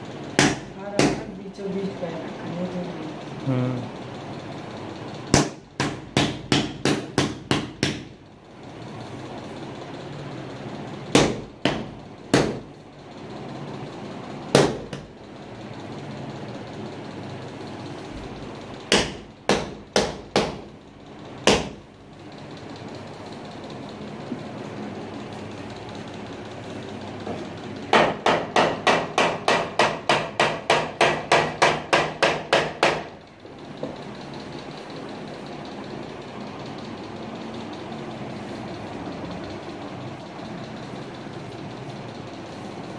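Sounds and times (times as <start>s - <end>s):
steady background hum: 0.0s - 42.9s.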